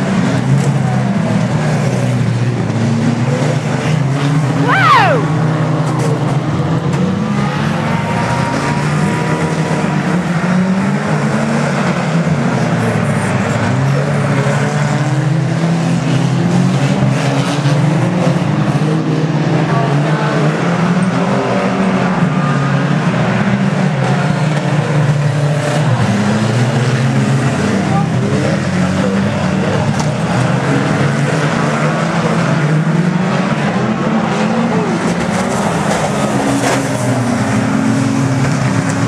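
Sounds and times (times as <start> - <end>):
racing car engines: 0.0 - 39.0.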